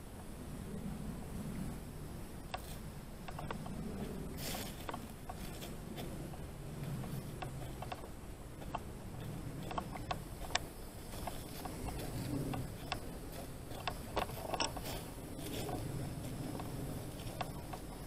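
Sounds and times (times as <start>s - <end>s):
sharp clicks and crackles: 2.5s - 18.0s
footsteps on dirt and leaves: 3.4s - 18.0s
low rumble: 3.5s - 18.0s.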